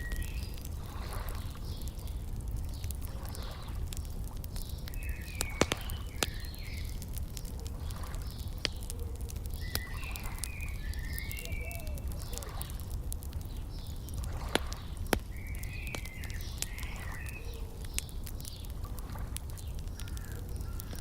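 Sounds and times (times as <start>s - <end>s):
small birds chirping: 0.0s - 21.0s
wood fire crackling and popping: 0.0s - 21.0s.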